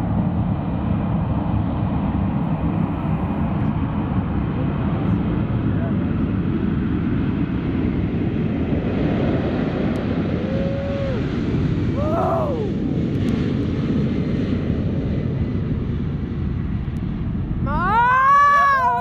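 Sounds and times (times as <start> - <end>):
jet engines roaring on takeoff: 0.0 - 19.0.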